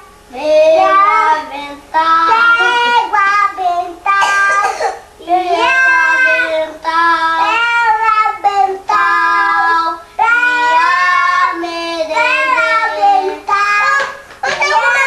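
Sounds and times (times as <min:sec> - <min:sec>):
young child singing: 0:00.3 - 0:15.0.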